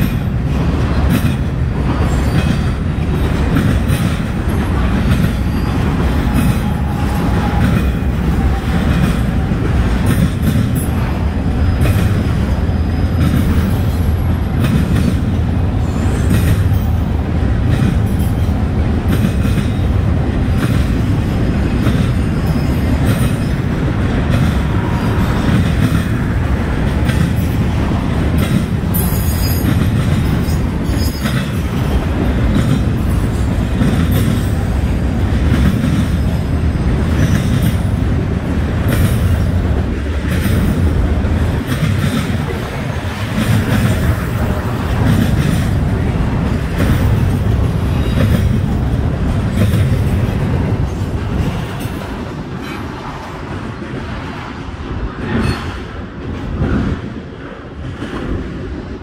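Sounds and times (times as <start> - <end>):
wheels clicking over rail joints: 0.0 - 54.1
train wheels rumbling on rail: 0.0 - 59.0.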